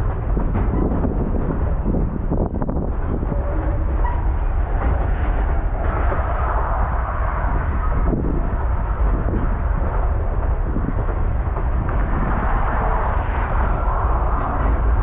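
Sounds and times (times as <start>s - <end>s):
locomotive low rumble: 0.0s - 15.0s.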